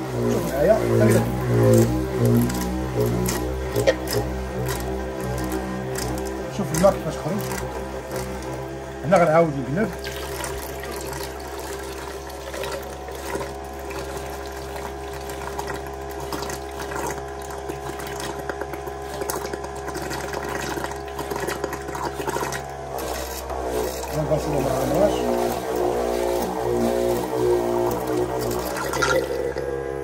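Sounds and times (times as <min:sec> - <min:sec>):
electric water pump humming: 0:00.0 - 0:30.0
water running into plastic jar: 0:00.0 - 0:30.0.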